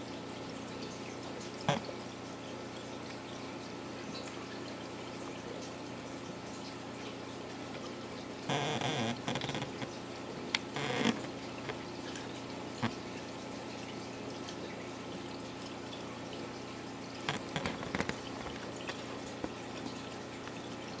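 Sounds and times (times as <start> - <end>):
aquarium water trickling and splashing: 0.0 - 21.0.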